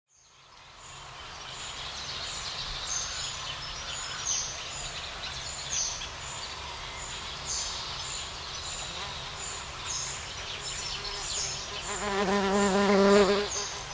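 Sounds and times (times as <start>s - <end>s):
steady background hiss: 0.2s - 13.9s.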